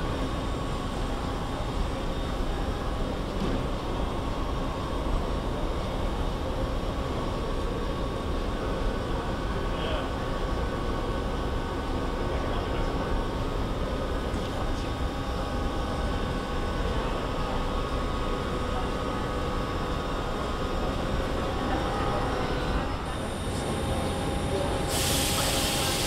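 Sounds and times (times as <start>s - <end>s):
machinery drone: 0.0s - 26.0s
ventilation hum: 0.0s - 26.0s.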